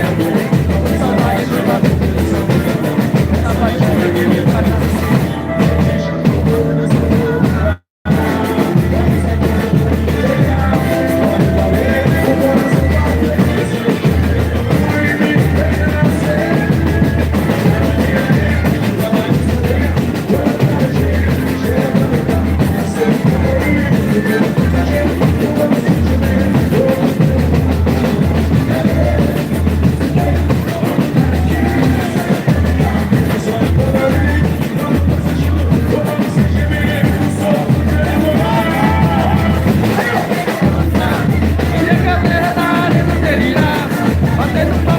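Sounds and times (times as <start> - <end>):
heavy drum beat: 0.0 - 44.9
voices singing: 0.0 - 44.9.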